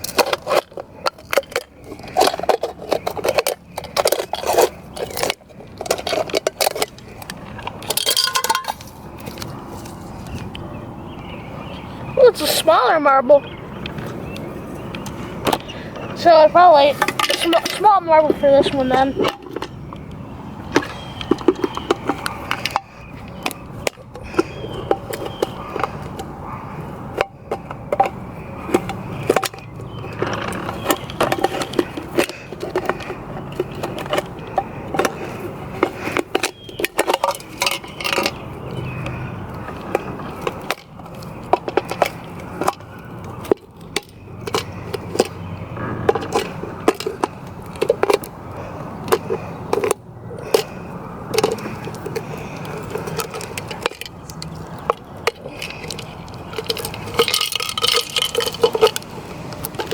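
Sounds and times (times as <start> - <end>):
metal clinks and scraping: 0.0 - 10.6, 12.2 - 59.9.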